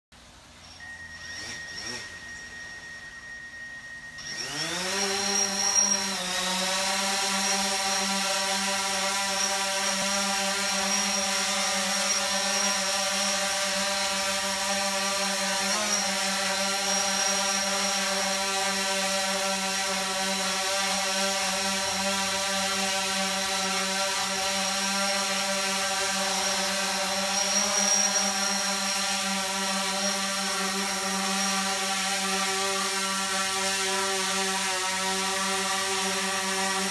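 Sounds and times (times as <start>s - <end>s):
drone propellers buzzing: 0.6s - 36.9s.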